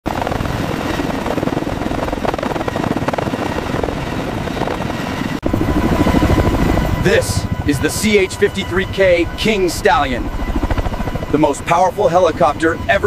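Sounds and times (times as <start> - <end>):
helicopter rotor chop: 0.1 - 13.0
turbine engine noise: 0.1 - 13.0.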